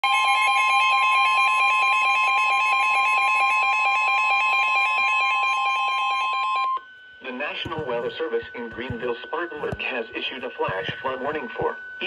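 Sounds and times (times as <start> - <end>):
shrill electronic alarm tone: 0.0 - 12.0.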